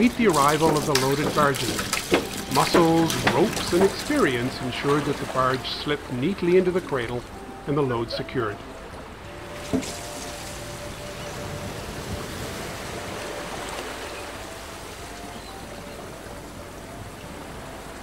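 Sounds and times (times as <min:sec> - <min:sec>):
faint slow melody: 0:00.0 - 0:18.0
flowing water rushing: 0:00.0 - 0:18.0.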